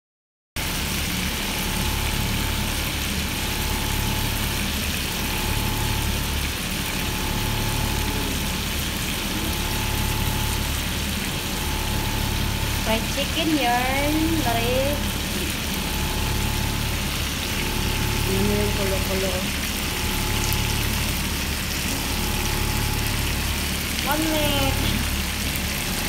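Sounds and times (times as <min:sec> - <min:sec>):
chicken deep-frying in oil: 0:00.6 - 0:26.0
low hum: 0:00.6 - 0:26.0.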